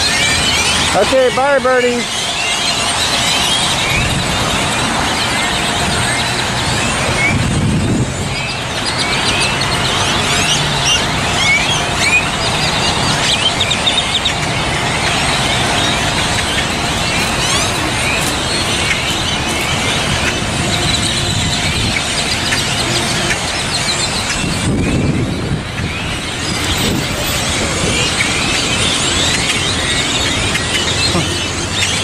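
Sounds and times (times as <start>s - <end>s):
flock of birds chirping: 0.0s - 32.0s.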